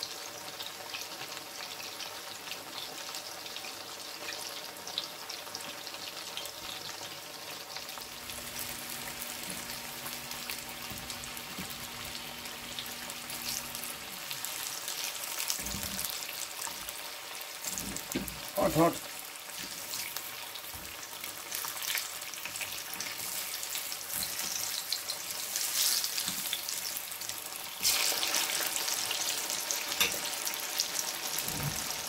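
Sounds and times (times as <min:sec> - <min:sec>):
food deep-frying in hot oil: 0:00.0 - 0:32.0.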